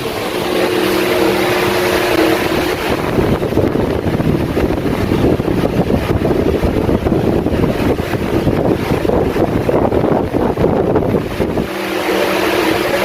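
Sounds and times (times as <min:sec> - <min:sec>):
fan motor hum: 0:00.0 - 0:13.0
wind noise on microphone: 0:00.0 - 0:13.0.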